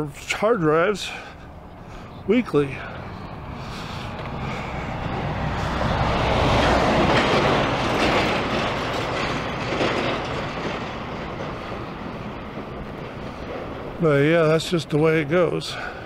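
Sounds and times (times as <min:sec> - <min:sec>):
large vehicle passing: 0:00.0 - 0:16.0.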